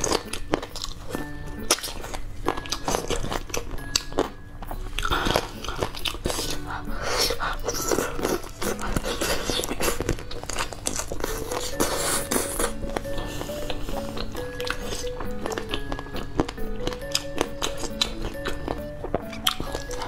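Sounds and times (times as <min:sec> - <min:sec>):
background music: 0:00.0 - 0:20.0
crisp crunches of chewing: 0:00.0 - 0:20.0.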